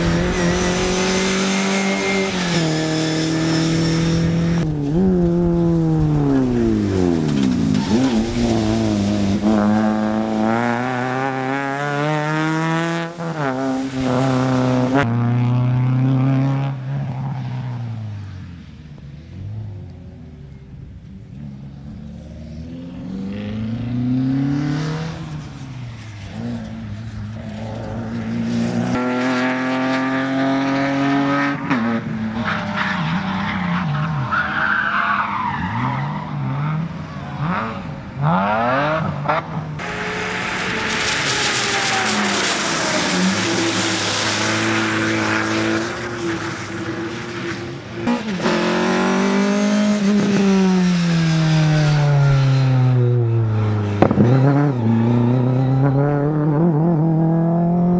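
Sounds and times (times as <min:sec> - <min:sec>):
tyres skidding: 0:00.0 - 0:15.1, 0:22.1 - 0:38.3, 0:39.2 - 0:56.0
rally car engines revving: 0:00.0 - 0:57.9.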